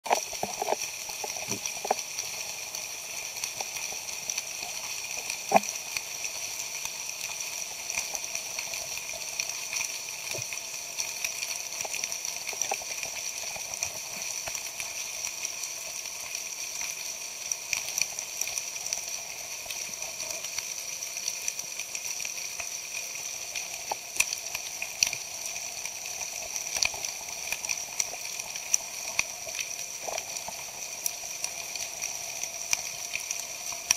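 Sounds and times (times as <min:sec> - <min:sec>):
crackling clicks: 0:00.1 - 0:33.9
underwater hiss: 0:00.1 - 0:33.9.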